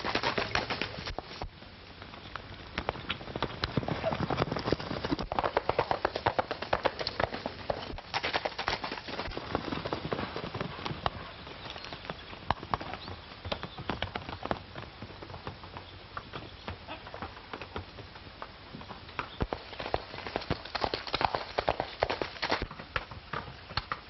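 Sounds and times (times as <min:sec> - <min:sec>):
horses' hooves galloping: 0:00.0 - 0:24.0.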